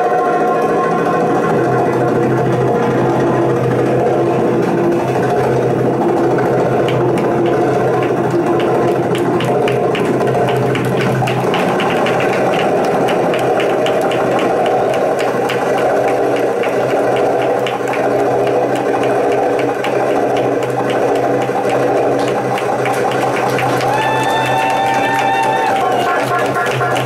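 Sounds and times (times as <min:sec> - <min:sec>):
belly-dance music over loudspeaker: 0:00.6 - 0:27.0.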